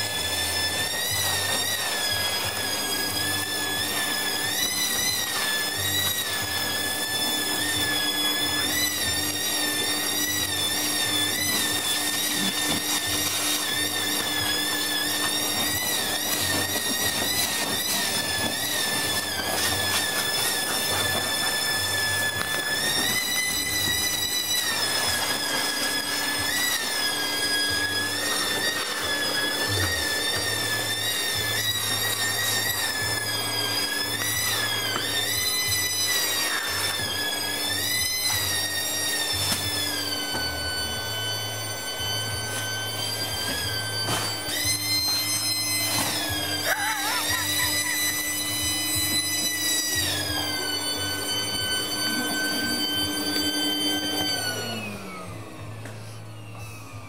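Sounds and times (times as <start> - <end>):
high wavering whistle: 0.0 - 57.0
vacuum cleaner motor hum: 0.0 - 57.0.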